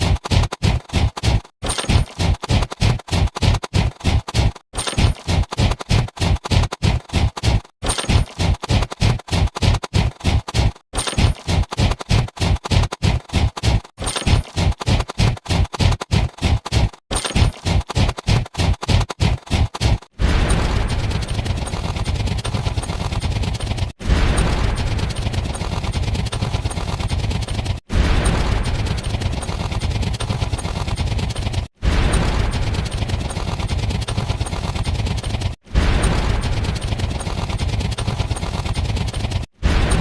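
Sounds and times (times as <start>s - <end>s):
rapid gunfire: 0.0s - 40.0s.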